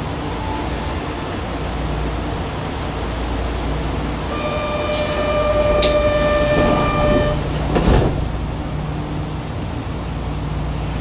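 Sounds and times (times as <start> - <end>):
subway car rumbling: 0.0 - 11.0.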